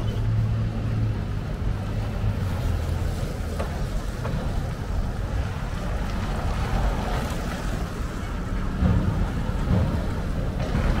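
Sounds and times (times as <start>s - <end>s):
vehicles driving past: 0.0s - 11.0s
wind rumble on microphone: 0.0s - 11.0s.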